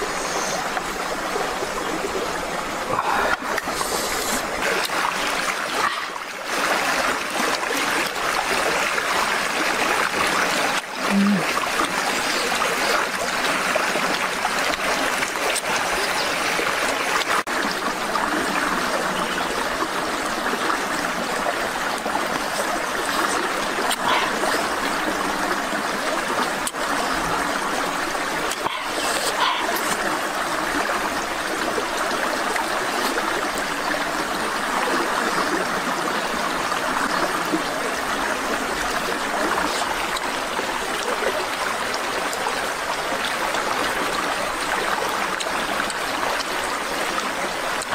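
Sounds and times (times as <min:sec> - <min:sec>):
running water rushing: 0:00.0 - 0:47.9.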